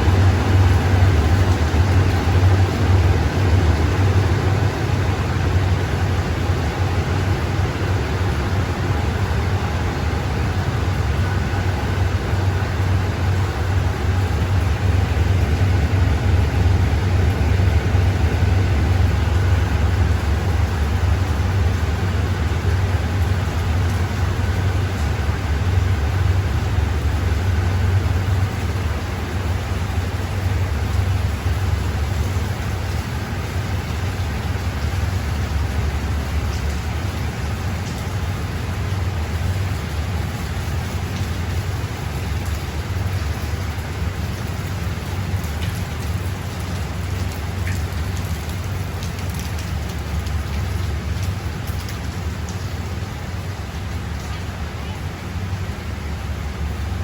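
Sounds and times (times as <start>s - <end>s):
train diesel engine running: 0.0s - 57.0s.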